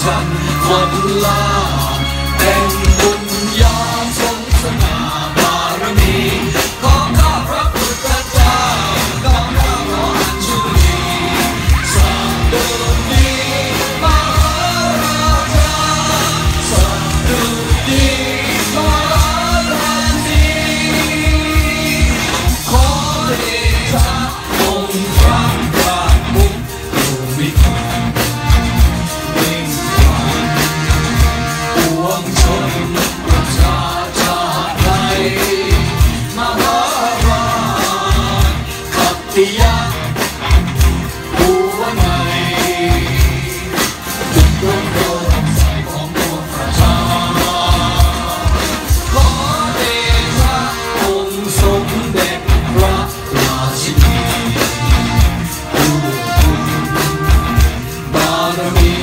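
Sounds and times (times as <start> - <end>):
drum kits and cymbals: 0.0 - 59.0
person singing: 0.0 - 59.0.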